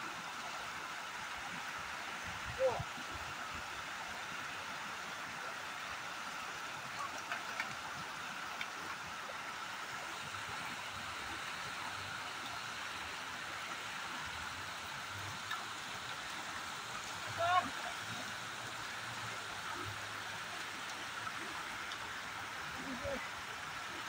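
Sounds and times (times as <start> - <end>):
flowing river water: 0.0 - 24.0.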